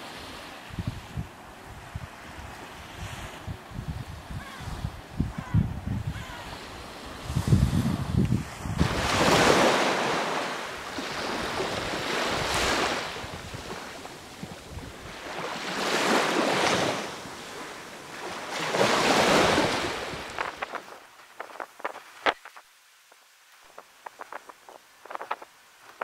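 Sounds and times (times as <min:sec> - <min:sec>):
sea waves washing: 0:00.0 - 0:26.0.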